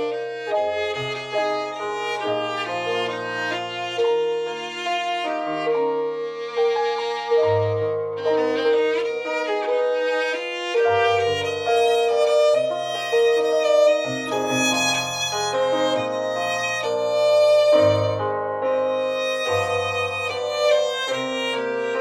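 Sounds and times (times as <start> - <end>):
slow violin melody: 0.0 - 22.0.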